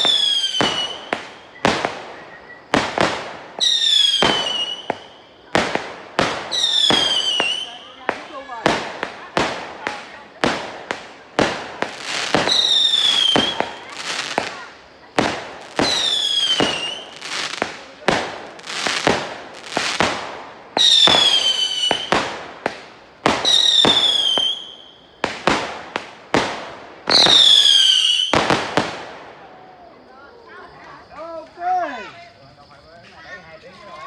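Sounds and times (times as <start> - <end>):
fireworks banging: 0.0 - 29.5
whistling firework shells: 0.0 - 29.8.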